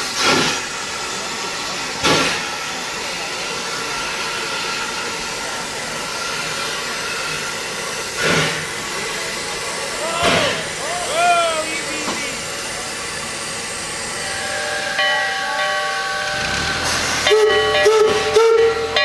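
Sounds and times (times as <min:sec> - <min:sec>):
gusts of steam hiss: 0:00.0 - 0:18.6
steam locomotive hissing: 0:00.0 - 0:19.0.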